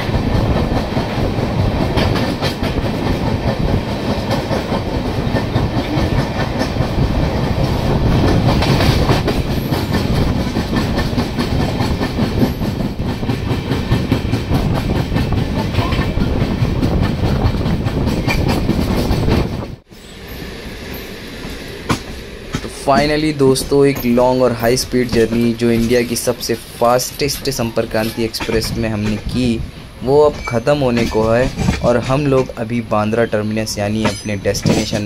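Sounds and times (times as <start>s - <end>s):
train wheels clattering over rail joints: 0.0s - 19.8s, 21.4s - 35.0s.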